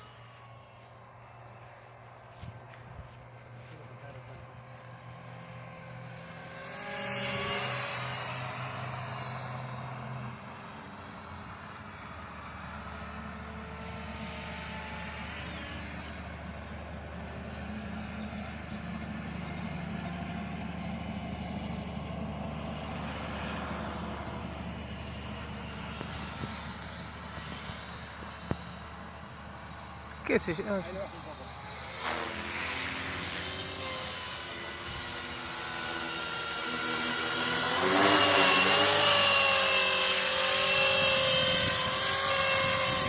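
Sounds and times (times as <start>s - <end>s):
high motor whine: 0.0s - 43.0s
rc helicopter rotor whirring: 0.0s - 43.0s.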